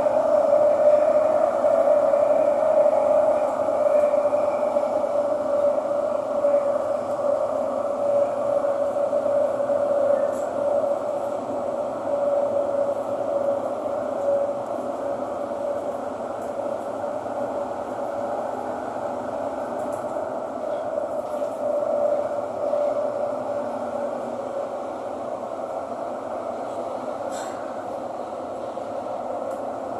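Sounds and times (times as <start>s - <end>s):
metro train rumble and whine: 0.0s - 29.9s.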